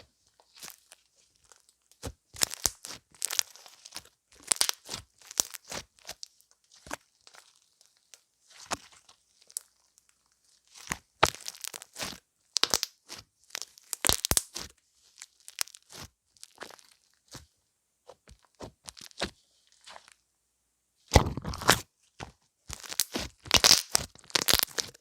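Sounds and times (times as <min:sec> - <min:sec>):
crinkling and crunching: 0:00.0 - 0:17.5, 0:18.1 - 0:20.2, 0:21.1 - 0:25.0.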